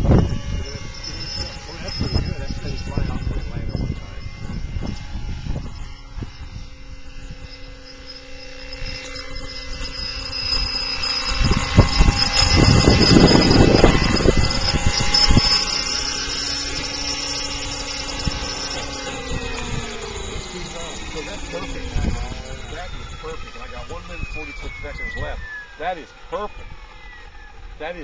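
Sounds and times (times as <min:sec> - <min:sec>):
rc helicopter motor whine: 0:00.0 - 0:28.0.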